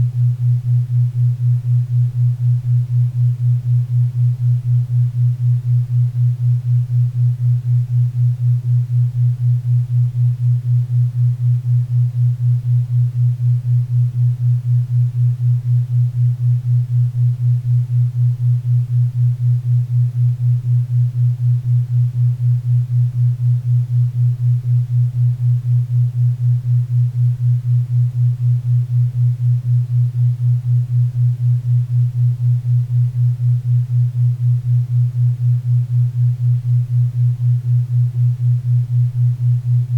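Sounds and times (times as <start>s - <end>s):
low pulsing hum-like tone: 0.0s - 39.9s.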